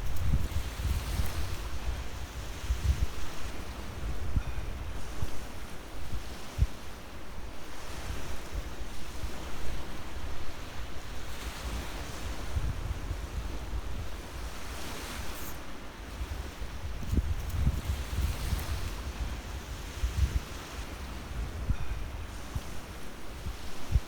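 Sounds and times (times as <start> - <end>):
wind buffeting microphone: 0.0 - 7.1, 7.8 - 24.0.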